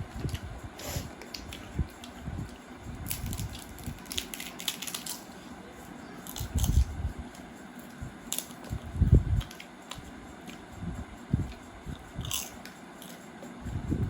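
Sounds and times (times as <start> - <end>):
chewing and crunching food: 1.2 - 10.7, 11.4 - 13.2.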